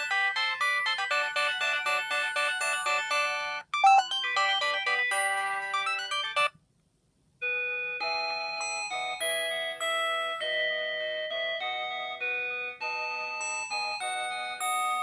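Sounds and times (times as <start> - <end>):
polyphonic ringtone melodies: 0.0 - 6.6, 7.4 - 15.0.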